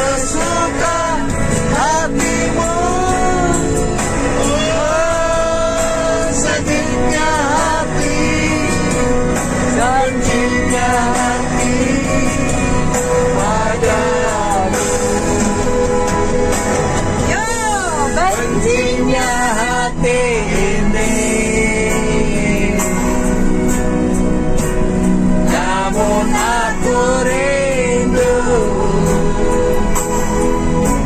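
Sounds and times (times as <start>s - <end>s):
backing music: 0.0s - 31.0s.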